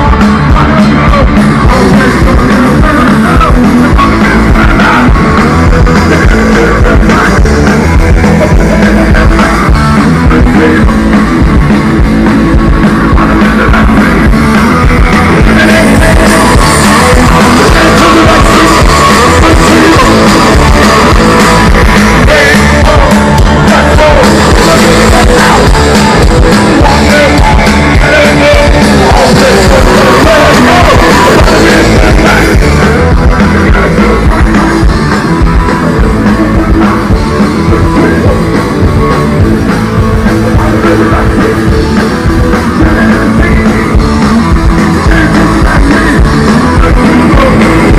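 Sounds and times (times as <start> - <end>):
live rock band playing: 0.0 - 47.9
person singing: 0.0 - 47.9.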